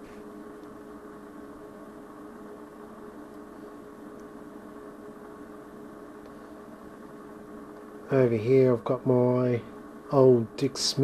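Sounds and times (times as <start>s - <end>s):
electrical hum with held tones: 0.0s - 11.0s.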